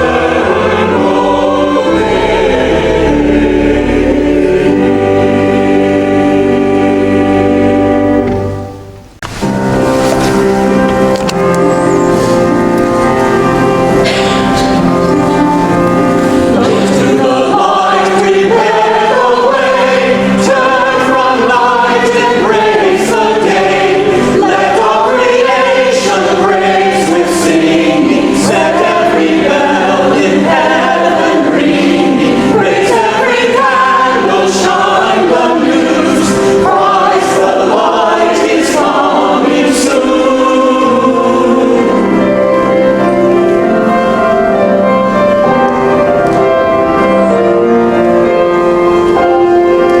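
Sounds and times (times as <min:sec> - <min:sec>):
choir singing a hymn: 0:00.0 - 0:08.8, 0:09.4 - 0:50.0
sustained instrumental accompaniment: 0:00.0 - 0:50.0.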